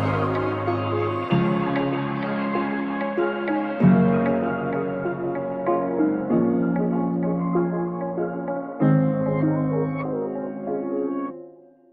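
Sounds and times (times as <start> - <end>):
slow ambient music: 0.0 - 11.8.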